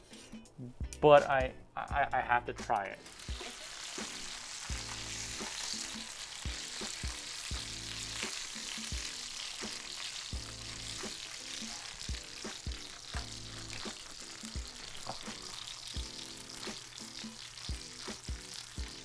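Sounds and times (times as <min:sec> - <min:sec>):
background music with a beat: 0:00.0 - 0:19.0
fish sizzling in a frying pan: 0:03.0 - 0:19.0.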